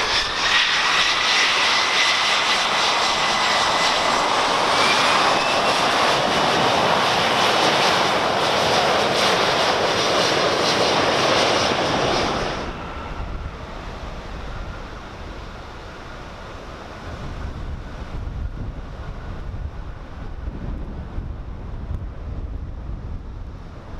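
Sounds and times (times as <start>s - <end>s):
jet engine roar: 0.0s - 23.9s
wind rumble on microphone: 0.0s - 23.9s.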